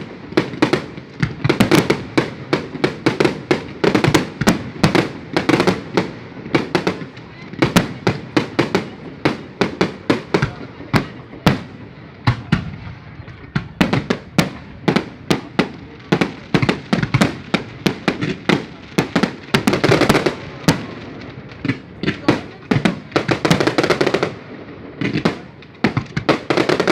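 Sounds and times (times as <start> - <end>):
fireworks banging: 0.0 - 26.9.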